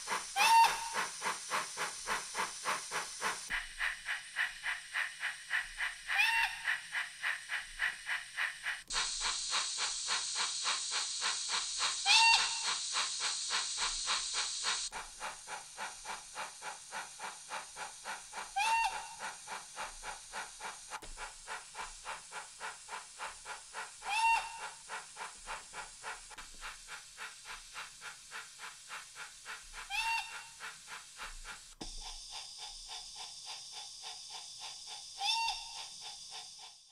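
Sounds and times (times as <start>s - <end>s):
steam locomotive chuffs: 0.0s - 36.9s.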